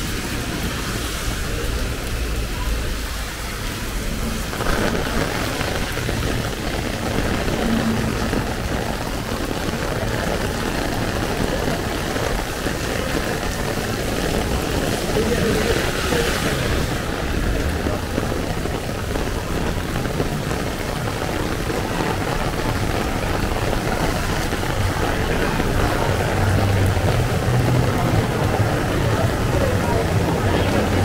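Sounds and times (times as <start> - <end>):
rain hissing on wet street: 0.0 - 31.0
rain pattering on an umbrella: 0.0 - 31.0.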